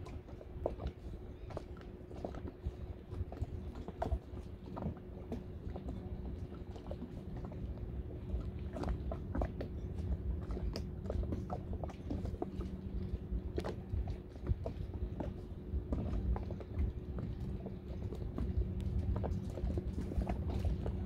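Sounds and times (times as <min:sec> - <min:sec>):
boat motor humming: 0:00.0 - 0:21.0
light clicks and taps: 0:03.3 - 0:21.0.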